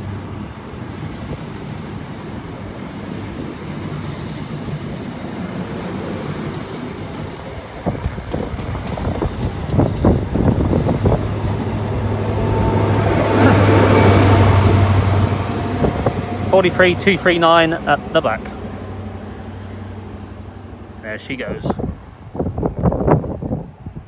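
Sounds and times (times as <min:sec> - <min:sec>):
diesel train engine drone: 0:00.0 - 0:24.0
train clanking: 0:00.6 - 0:21.8.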